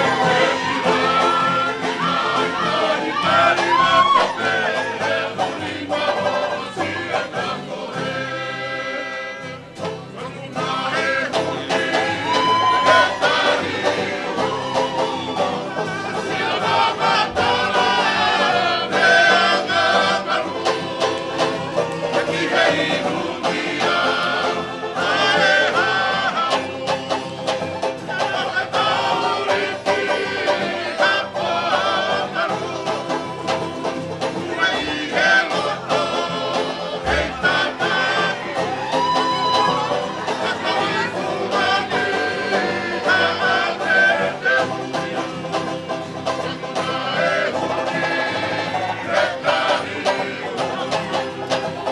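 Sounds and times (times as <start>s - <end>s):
men singing: 0.0s - 51.9s
strummed guitars and banjo: 0.0s - 51.9s.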